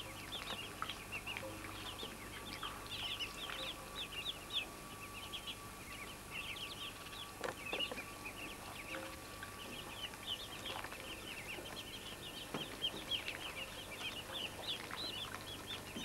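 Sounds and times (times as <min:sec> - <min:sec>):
ducklings peeping: 0:00.0 - 0:16.0
faint steady tone: 0:00.0 - 0:16.0.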